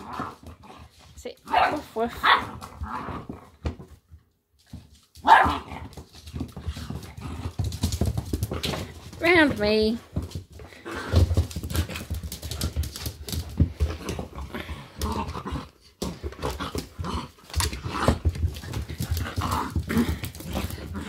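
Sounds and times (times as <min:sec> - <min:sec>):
puppies growling: 0:00.0 - 0:01.0, 0:02.0 - 0:03.8, 0:05.4 - 0:09.0, 0:10.6 - 0:21.0.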